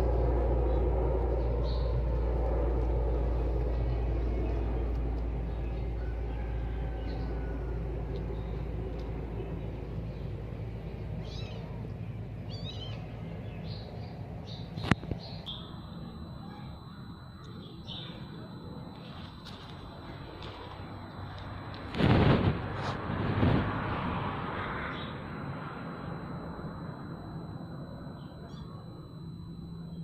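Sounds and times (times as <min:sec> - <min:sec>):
distant vehicle rumble: 0:00.0 - 0:30.0.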